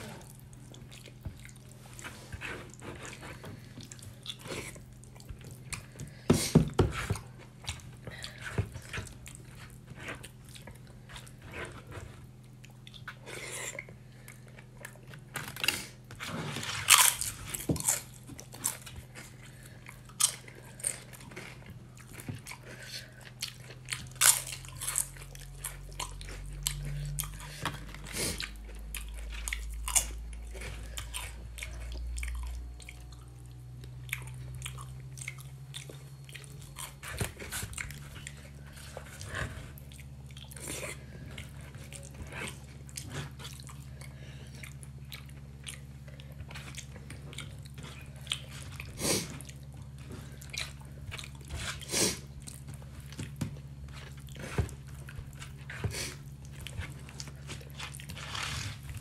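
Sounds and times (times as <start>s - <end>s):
man chewing: 0.0s - 59.0s.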